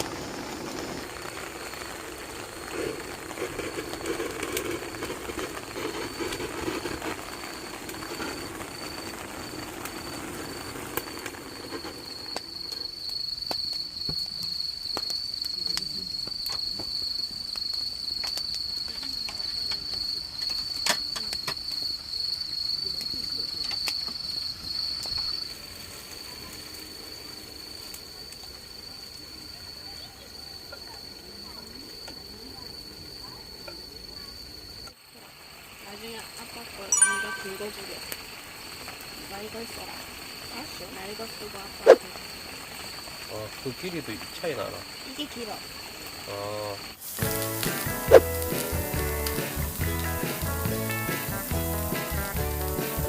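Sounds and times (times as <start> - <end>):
insect trilling: 0.0 - 22.8, 23.4 - 53.0.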